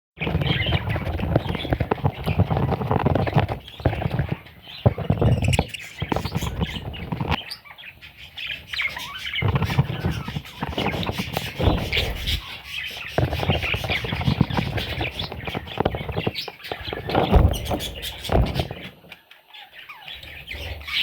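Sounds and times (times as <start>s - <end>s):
parrot chicks cheeping: 0.2s - 21.0s.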